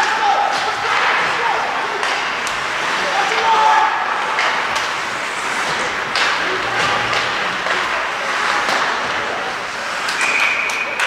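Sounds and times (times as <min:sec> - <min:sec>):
hockey sticks and puck clacking: 0:00.0 - 0:11.0
skates and spectators noise: 0:00.0 - 0:11.0.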